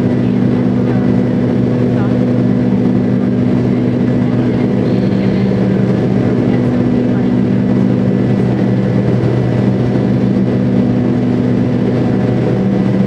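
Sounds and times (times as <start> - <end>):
jet engines drone in cabin: 0.0 - 13.0.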